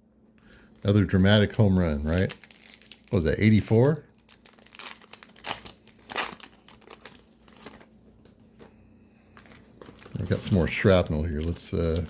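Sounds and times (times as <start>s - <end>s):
foil wrapper crinkling and tearing: 0.8s - 7.9s, 9.4s - 12.0s.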